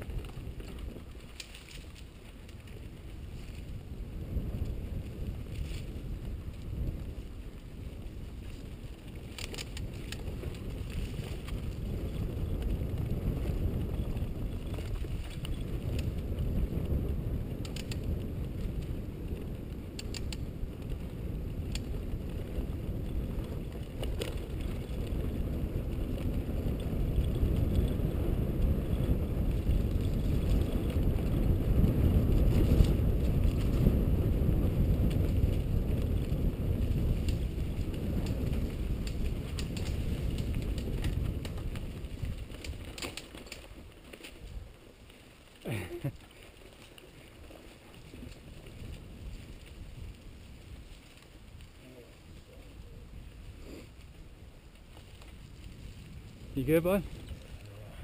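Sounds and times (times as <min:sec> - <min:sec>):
bike clicking and rattling: 0:00.0 - 0:58.0
bike tyres rumbling on dirt: 0:00.0 - 0:58.0
wind buffeting microphone: 0:00.0 - 0:58.0.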